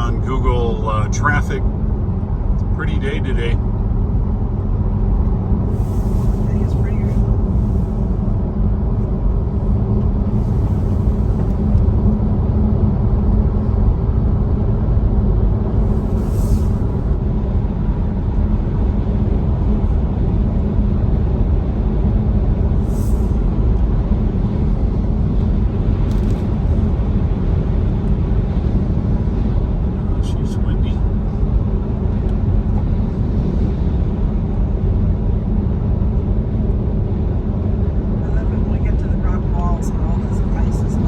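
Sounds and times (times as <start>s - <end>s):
road and tyre noise in car: 0.0s - 41.0s.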